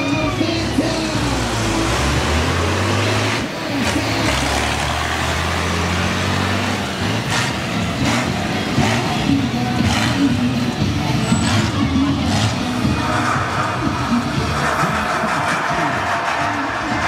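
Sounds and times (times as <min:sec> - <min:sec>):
monster truck engines rumbling: 0:00.0 - 0:17.0.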